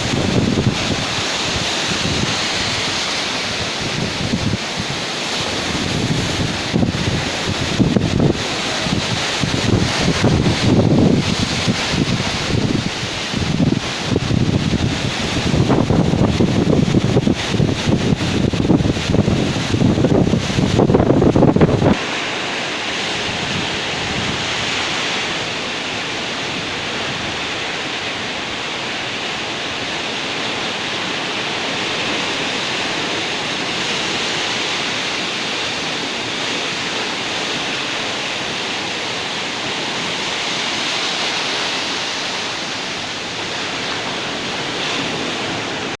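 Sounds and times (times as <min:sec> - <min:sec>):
heavy surf rushing: 0:00.0 - 0:46.0
wind buffeting microphone: 0:00.0 - 0:46.0.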